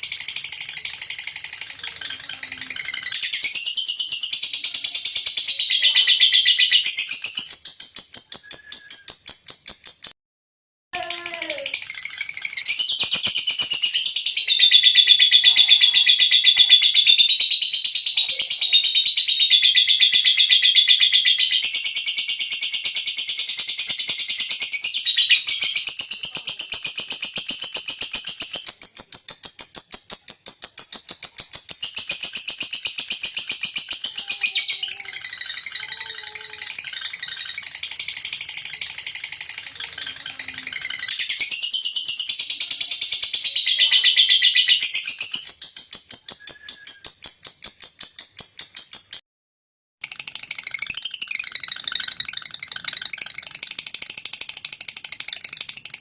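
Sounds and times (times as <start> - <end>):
lovebird chattering trill: 0.0 - 10.1, 11.0 - 49.2.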